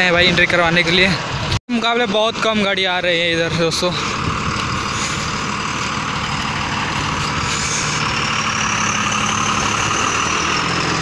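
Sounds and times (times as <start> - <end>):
truck diesel engine idling: 1.2 - 11.0.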